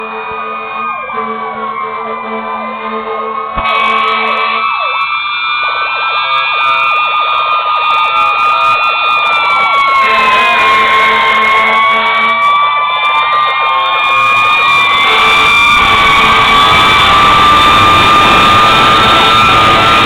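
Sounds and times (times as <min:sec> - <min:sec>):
fire truck sirens: 0:00.0 - 0:20.0.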